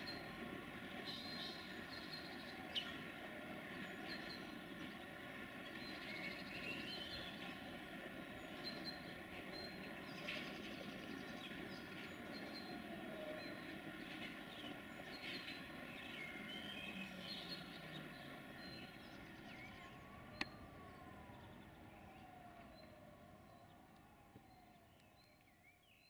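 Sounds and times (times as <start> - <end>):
distant siren: 0.0 - 25.9
birds chirping: 0.0 - 26.0.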